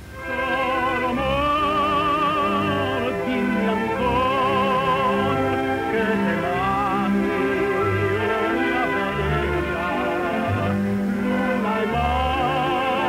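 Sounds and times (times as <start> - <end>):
instrumental accompaniment: 0.0 - 13.0
operatic solo singing: 0.1 - 13.0.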